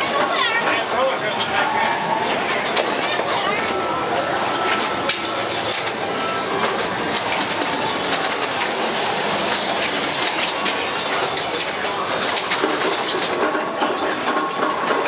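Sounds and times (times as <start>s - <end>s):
pinball machines noise: 0.0s - 15.0s.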